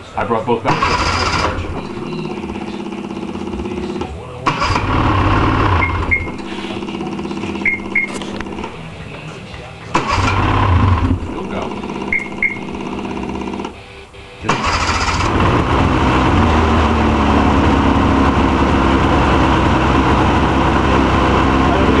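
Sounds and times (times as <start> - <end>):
snowmobile engine starting: 0.7 - 9.0, 9.9 - 13.8, 14.4 - 22.0.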